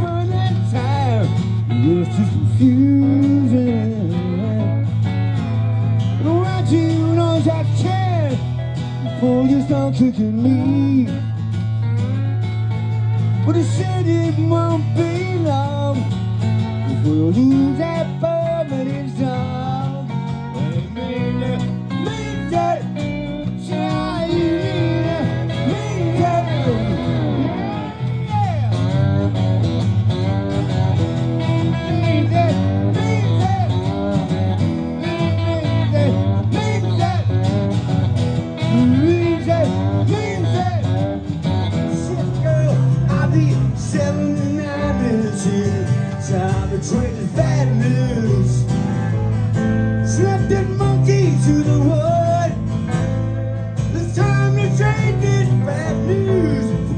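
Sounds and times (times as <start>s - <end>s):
guitars playing chords: 0.0s - 56.9s
lead guitar bending notes: 0.0s - 56.9s.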